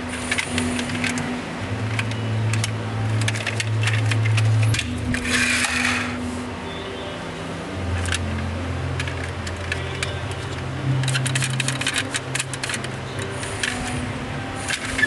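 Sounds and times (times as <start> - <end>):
plastic toy truck rattling: 0.0 - 6.2, 8.0 - 15.0.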